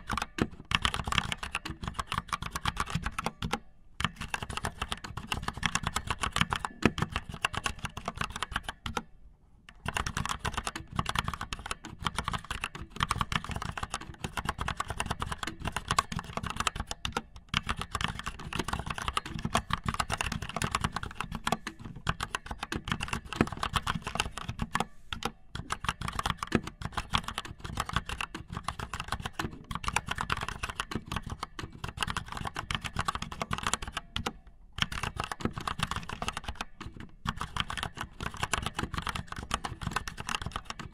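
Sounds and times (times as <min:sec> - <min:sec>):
rapid clicking and tapping: 0:00.0 - 0:09.1, 0:09.7 - 0:40.9.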